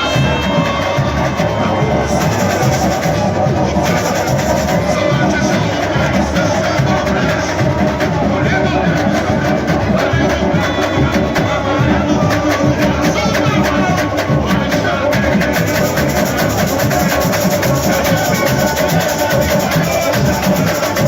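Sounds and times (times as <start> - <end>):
fast samba percussion: 0.0 - 21.0
people singing melody: 0.0 - 21.0.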